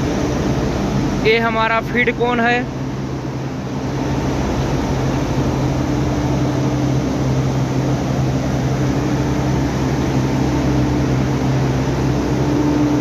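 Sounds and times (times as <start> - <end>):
industrial machinery humming: 0.0 - 13.0.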